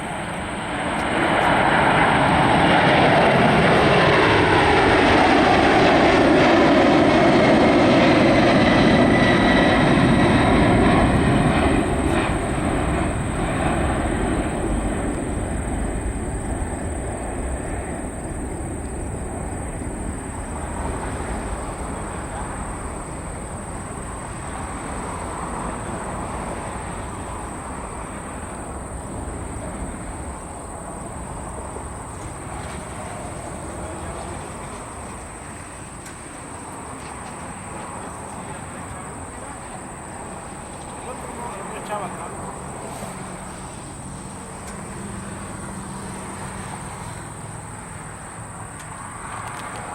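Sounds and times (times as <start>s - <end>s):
distant jet engines rumbling: 0.0s - 49.9s.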